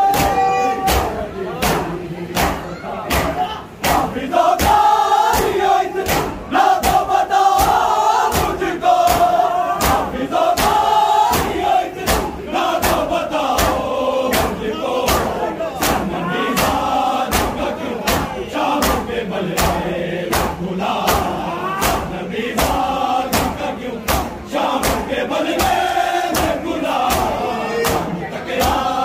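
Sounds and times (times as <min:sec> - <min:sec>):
crowd of men chanting: 0:00.0 - 0:29.0.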